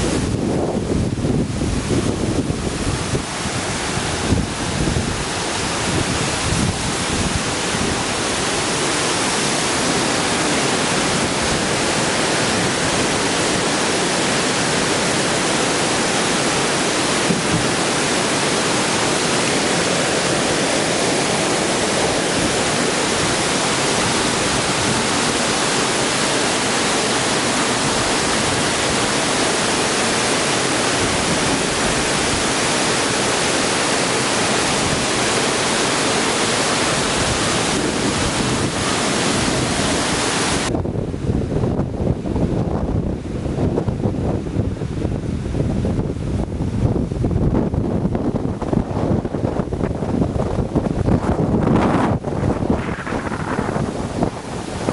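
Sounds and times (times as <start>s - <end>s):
floodwater rushing: 0.0s - 54.9s.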